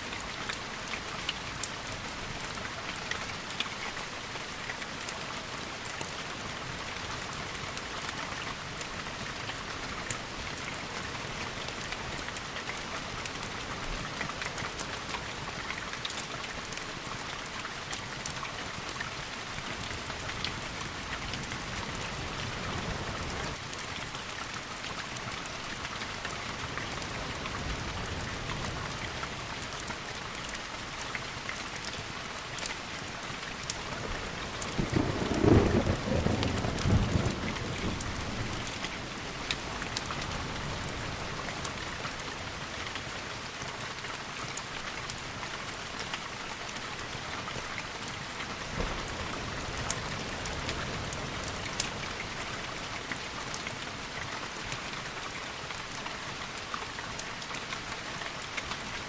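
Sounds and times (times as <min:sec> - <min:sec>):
raindrops ticking on a surface: 0:00.0 - 0:59.0
steady rain falling: 0:00.0 - 0:59.0.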